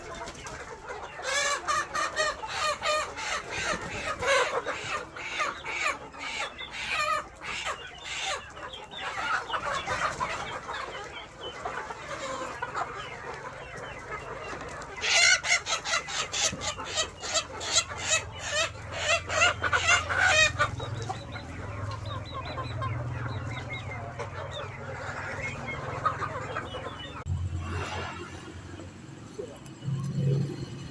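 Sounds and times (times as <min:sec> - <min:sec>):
chickens clucking: 0:00.0 - 0:30.8.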